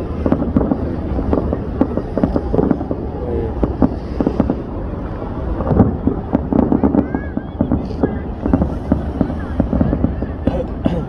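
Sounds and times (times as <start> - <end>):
fireworks popping and crackling: 0.0 - 11.0
low rumble: 0.0 - 11.0.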